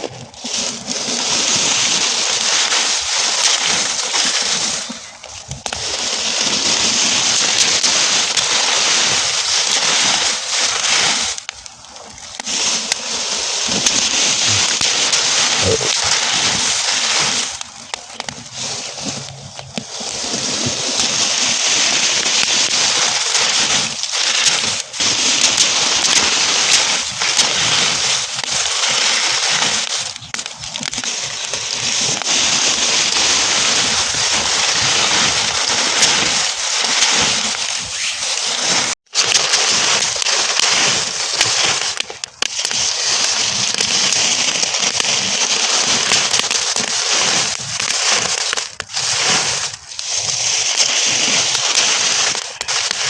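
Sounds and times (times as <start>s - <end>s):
burning straw crackling: 0.0s - 53.0s.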